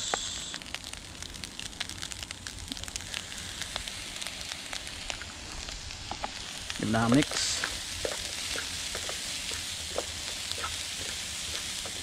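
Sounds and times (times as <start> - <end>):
crackling pops: 0.0 - 12.0
rice sizzling in a pan: 0.0 - 12.0.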